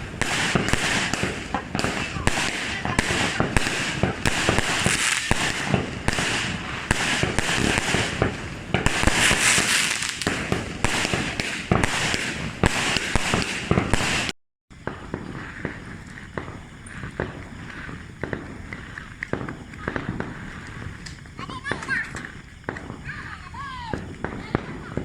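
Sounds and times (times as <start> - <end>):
fireworks cracking and popping: 0.0 - 25.0
steady hiss: 0.0 - 25.0.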